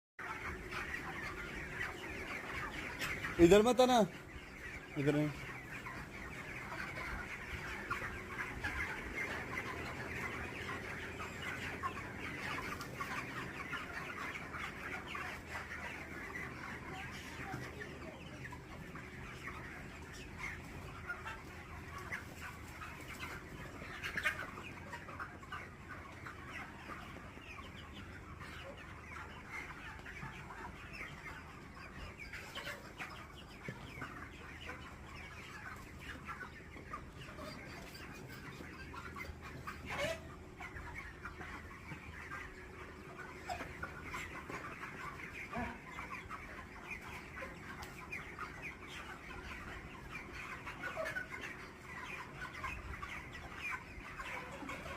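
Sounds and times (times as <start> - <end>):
chickens clucking: 0.2 - 54.9.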